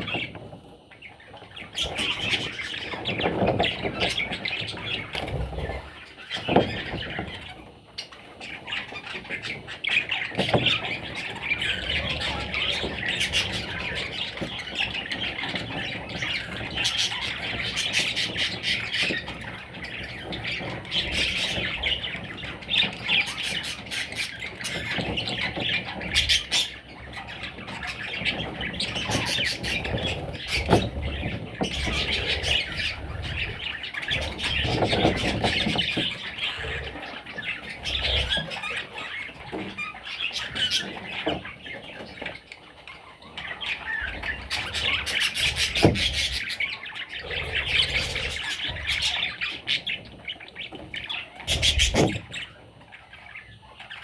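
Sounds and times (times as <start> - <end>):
budgerigars chattering and squawking: 0.0 - 54.0.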